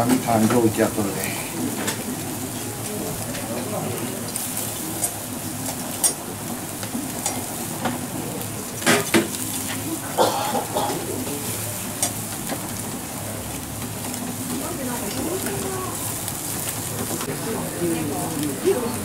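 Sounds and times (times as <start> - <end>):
fish sizzling on grill: 0.0 - 19.0
skewers clinking on grill: 3.3 - 19.0.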